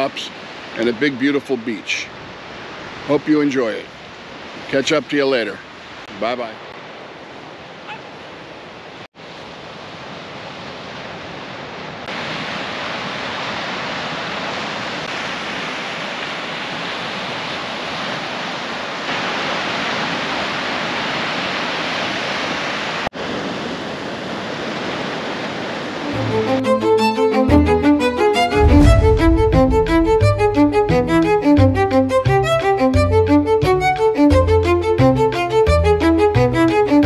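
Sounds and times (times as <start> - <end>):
ocean surf on beach: 0.0 - 31.6.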